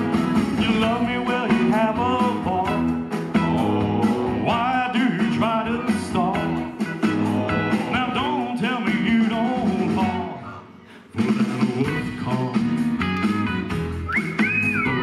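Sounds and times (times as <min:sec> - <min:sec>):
amplified instrumental accompaniment: 0:00.0 - 0:10.4, 0:11.2 - 0:15.0
man singing into a microphone: 0:00.5 - 0:12.9.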